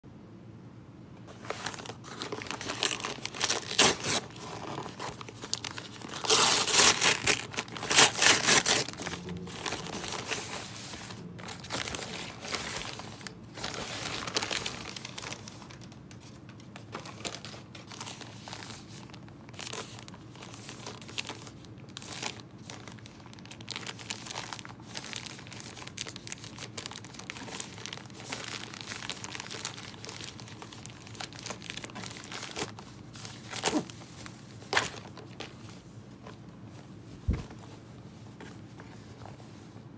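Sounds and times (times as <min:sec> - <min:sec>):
paper and plastic bags crinkling: 0:01.3 - 0:39.9
paper mailer ripping: 0:01.4 - 0:34.0.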